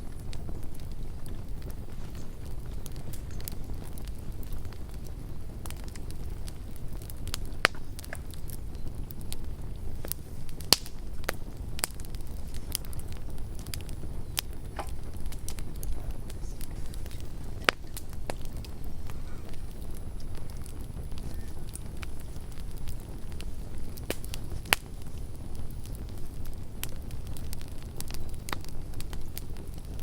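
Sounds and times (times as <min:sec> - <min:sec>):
low rumble of flames: 0:00.0 - 0:30.0
wood crackling and popping: 0:00.0 - 0:30.0.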